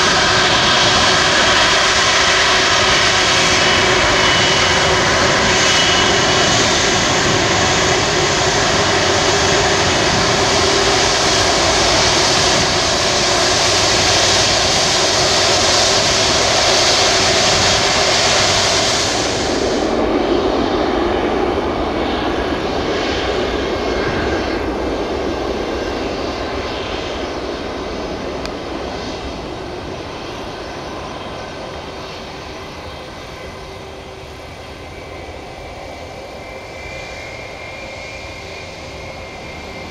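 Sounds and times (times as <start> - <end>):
jet engines running loud: 0.0 - 39.9.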